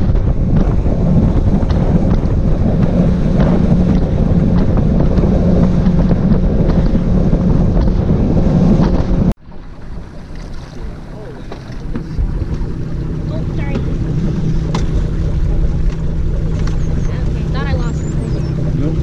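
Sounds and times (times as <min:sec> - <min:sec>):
boat engine drone: 0:00.0 - 0:19.0
rushing water: 0:00.0 - 0:19.0
wind buffeting microphone: 0:00.0 - 0:19.0.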